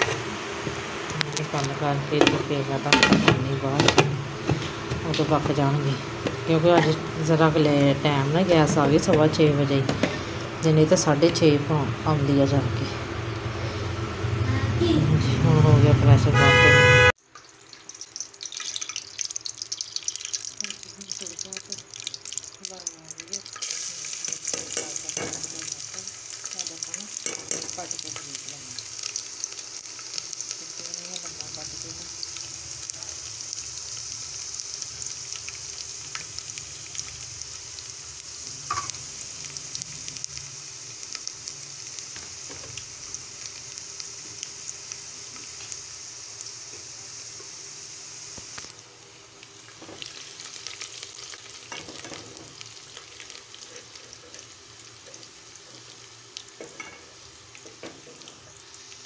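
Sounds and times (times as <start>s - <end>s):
onion sizzling in oil: 0.0s - 59.0s.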